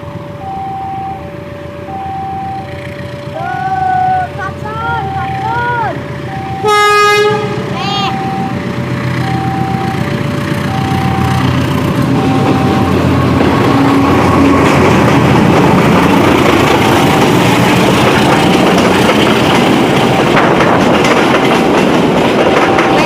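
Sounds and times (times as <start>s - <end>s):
train passing close by: 0.0s - 23.0s.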